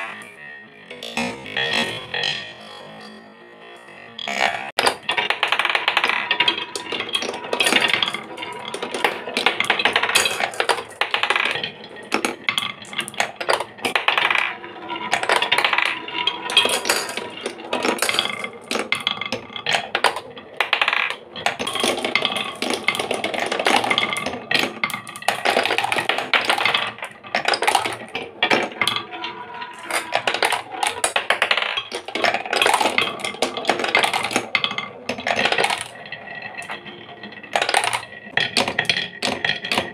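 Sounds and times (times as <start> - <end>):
marbles clicking and clacking: 0.0 - 3.2, 4.2 - 39.9
marbles rolling on wooden track: 0.0 - 39.9.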